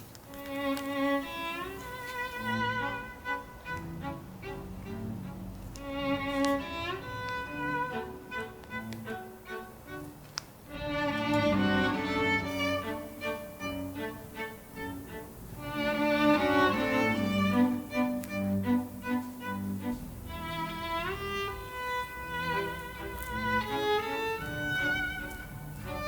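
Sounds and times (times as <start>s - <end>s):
violin melody over strings: 0.3s - 26.0s.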